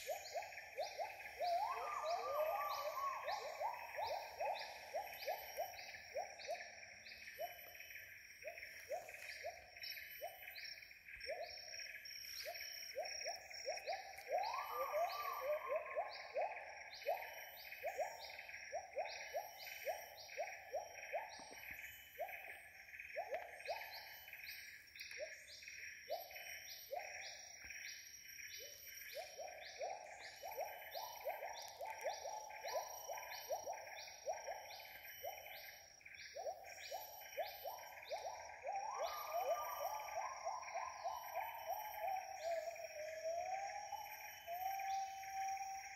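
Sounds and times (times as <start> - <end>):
insect drone: 0.0 - 45.9.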